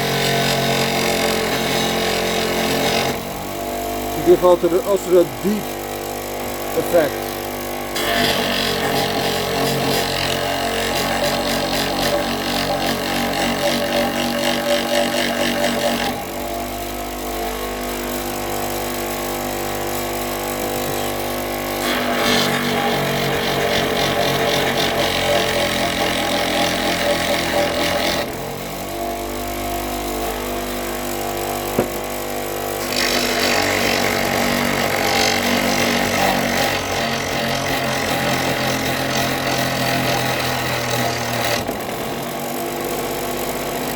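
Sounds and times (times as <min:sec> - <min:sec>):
motor humming: 0:00.0 - 0:43.9
power tool grinding wood: 0:00.0 - 0:43.9.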